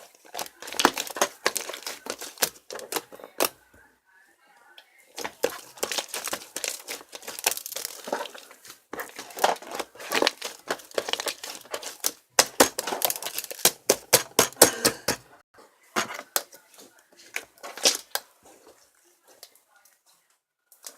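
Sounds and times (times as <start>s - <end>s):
material crinkling: 0.0s - 3.6s, 5.2s - 15.2s, 16.2s - 20.2s.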